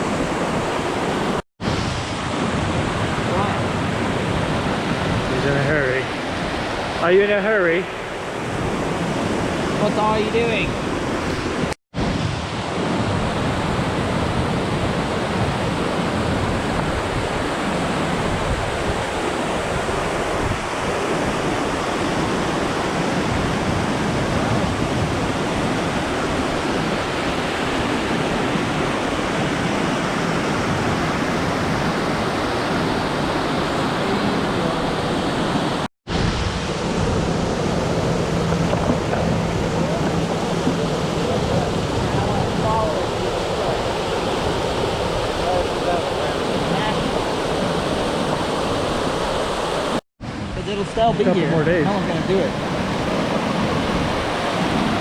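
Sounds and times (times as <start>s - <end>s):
waterfall roaring: 4.4s - 14.0s, 15.1s - 55.0s.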